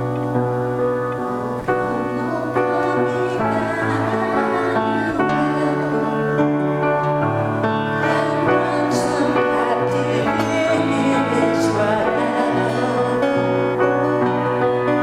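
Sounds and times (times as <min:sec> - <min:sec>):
church worship music: 0:00.0 - 0:15.0.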